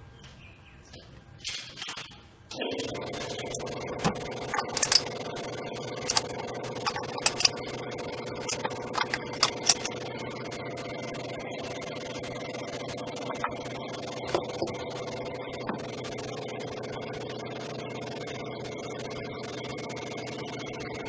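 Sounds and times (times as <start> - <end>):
sharp engine ticks: 2.5 - 21.0.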